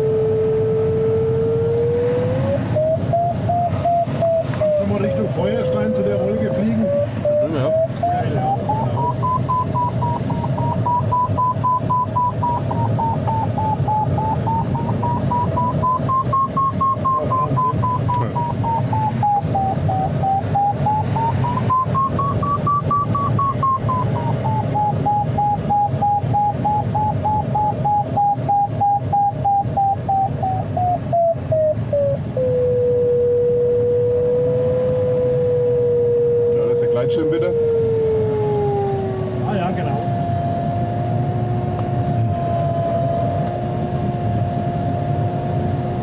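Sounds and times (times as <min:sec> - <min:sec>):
air rushing past cockpit: 0:00.0 - 0:46.0
variometer beeping: 0:00.0 - 0:46.0.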